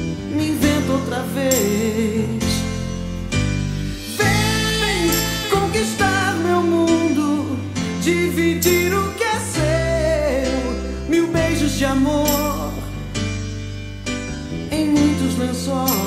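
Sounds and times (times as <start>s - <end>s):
pop ballad playing: 0.0s - 16.0s.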